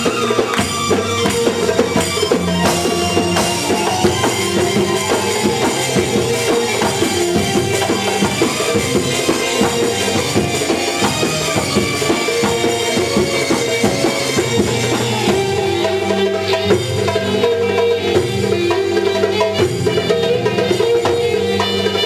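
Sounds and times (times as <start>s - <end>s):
belly-dance music from live band: 0.0s - 22.0s.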